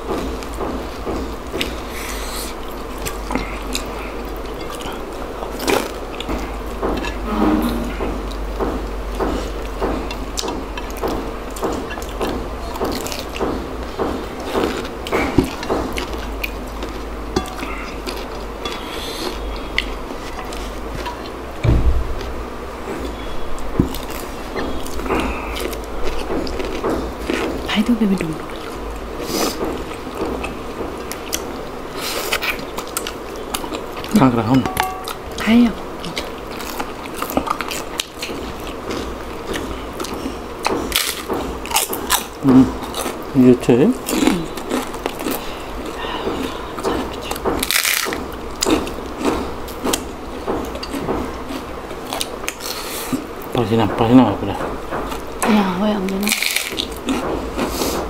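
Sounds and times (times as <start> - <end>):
wet crunchy chewing: 8.0 - 21.5, 22.1 - 53.5, 56.1 - 58.0.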